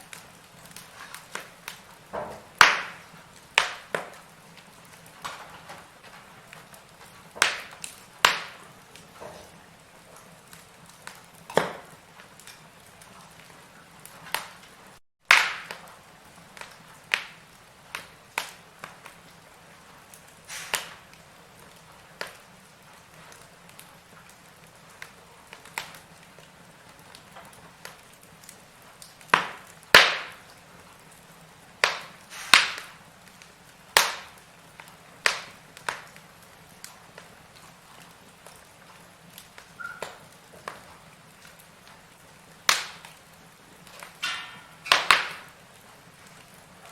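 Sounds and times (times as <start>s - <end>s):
faint steady hiss: 0.0s - 46.9s
firewood crackling and popping: 0.0s - 46.9s.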